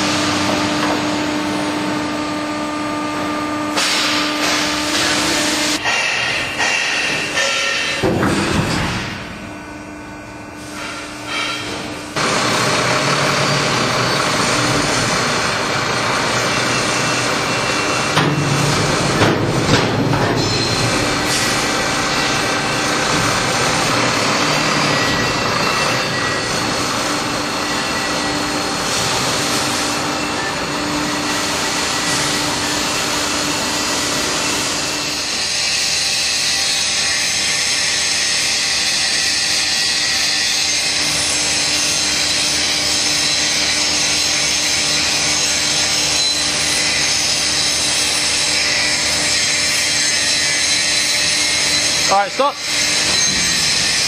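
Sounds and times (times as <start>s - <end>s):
hydraulic machinery running: 0.0s - 54.0s.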